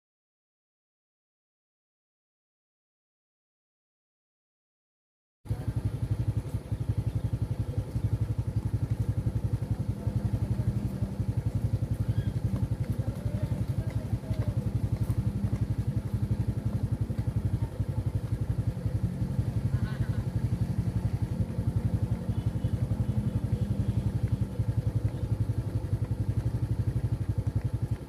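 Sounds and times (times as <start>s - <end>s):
engine running: 5.5s - 28.0s.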